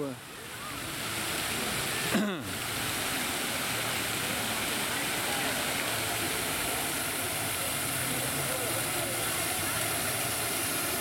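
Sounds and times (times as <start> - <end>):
faint voices: 0.0 - 11.0
fountain water splashing: 0.0 - 11.0.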